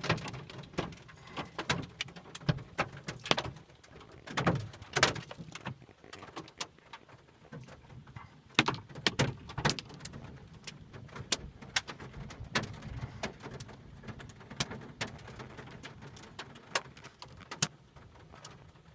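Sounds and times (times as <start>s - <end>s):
hailstones knocking on car roof: 0.0s - 18.9s
rain patter: 0.0s - 18.9s.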